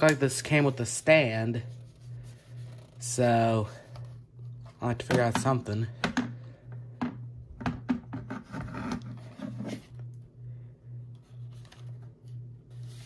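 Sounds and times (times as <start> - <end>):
low pulsing hum: 0.0 - 13.0.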